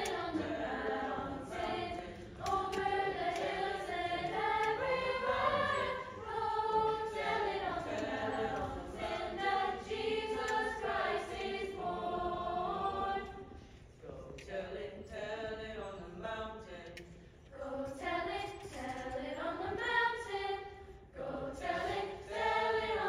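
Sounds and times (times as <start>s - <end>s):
youth choir singing: 0.0s - 13.6s, 14.5s - 16.8s, 17.5s - 23.0s.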